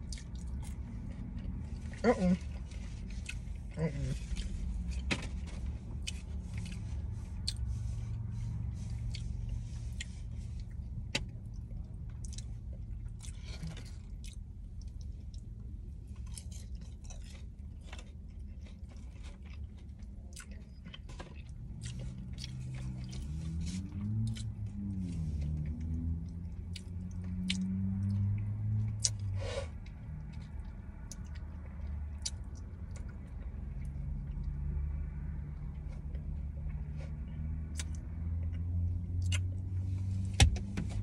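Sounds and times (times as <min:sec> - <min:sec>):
chewing and biting food: 0:00.0 - 0:08.2, 0:08.9 - 0:39.7.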